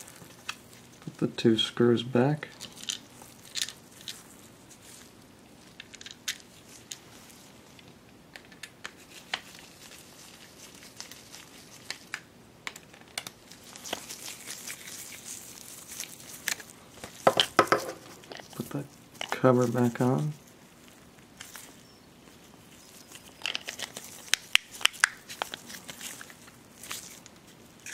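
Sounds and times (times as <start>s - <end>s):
rustling: 2.5s - 8.0s, 8.9s - 12.2s, 13.0s - 27.9s.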